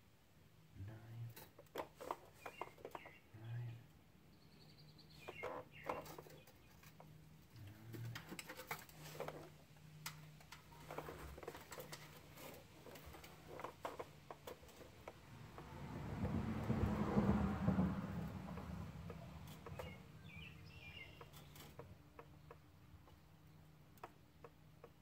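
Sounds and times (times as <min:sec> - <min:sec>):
hands tapping and scraping metal: 0:01.3 - 0:03.3, 0:05.0 - 0:25.0.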